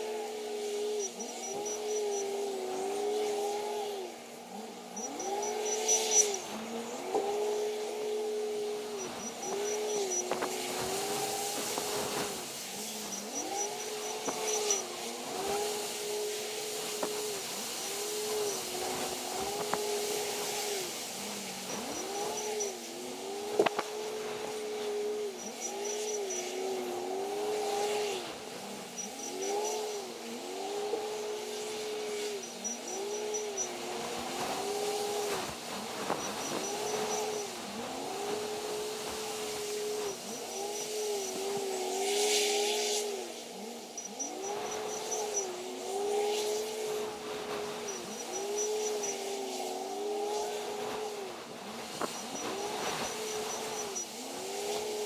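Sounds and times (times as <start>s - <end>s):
wheel loader engine revving: 0.0s - 55.0s.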